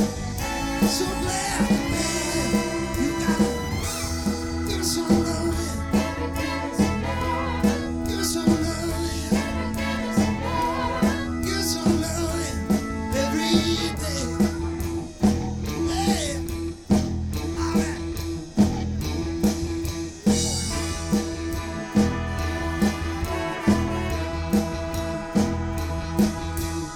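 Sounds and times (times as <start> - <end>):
drum kit beat: 0.0 - 26.9
live band playing: 0.0 - 26.9.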